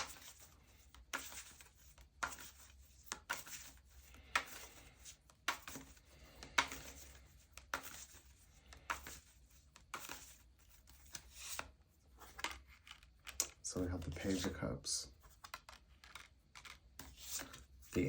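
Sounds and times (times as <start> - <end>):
cards being shuffled: 0.0 - 14.6, 15.2 - 18.0.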